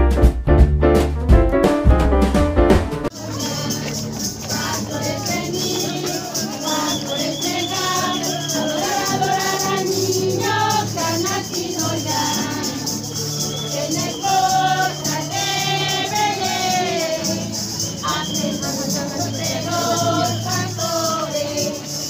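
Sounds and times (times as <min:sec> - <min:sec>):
group of voices singing: 0:03.1 - 0:22.0
shaken rattles: 0:03.1 - 0:22.0.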